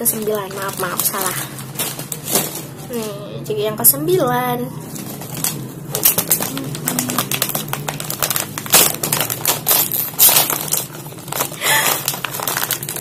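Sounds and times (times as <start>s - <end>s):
plastic snack bag crinkling: 0.0s - 3.1s, 4.8s - 13.0s.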